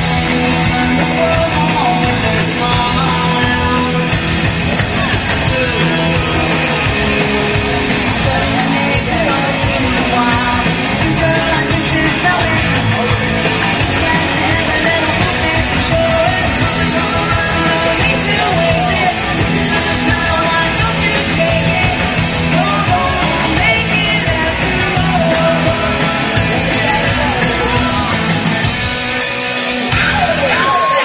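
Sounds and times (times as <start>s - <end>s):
woman singing lead: 0.0s - 28.7s, 29.9s - 31.0s
distorted electric guitar: 0.0s - 31.0s
drum kit: 0.0s - 31.0s.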